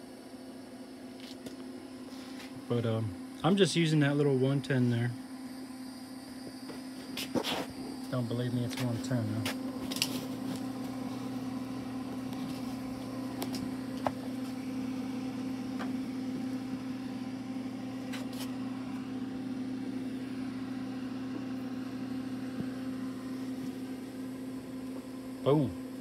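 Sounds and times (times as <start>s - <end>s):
welder electrical hum: 0.0s - 26.0s.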